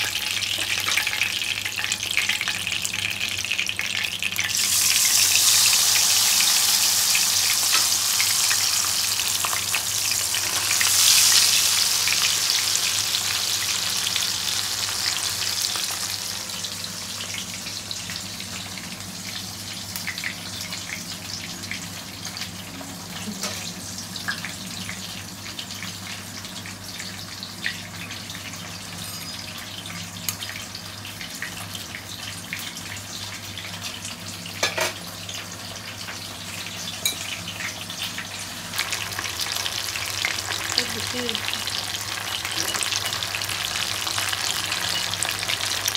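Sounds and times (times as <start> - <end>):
fish sizzling in hot oil: 0.0 - 45.9.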